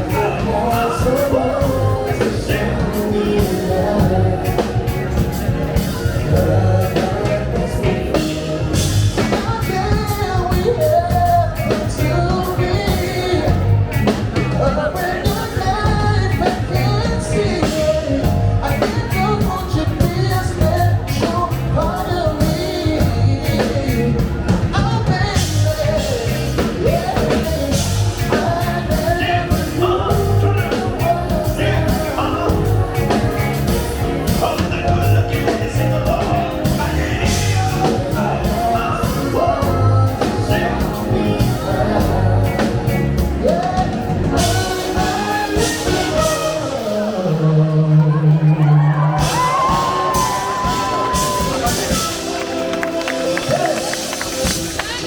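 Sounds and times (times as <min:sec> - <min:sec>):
drum kit beat: 0:00.0 - 0:47.9, 0:48.9 - 0:55.0
funk band playing live: 0:00.0 - 0:55.0.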